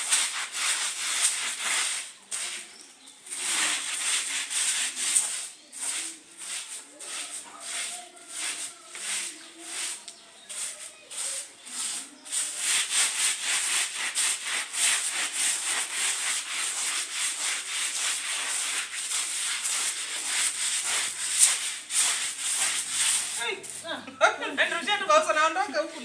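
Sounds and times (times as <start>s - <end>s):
brush scrubbing carpet: 0.0s - 2.7s, 3.3s - 23.9s.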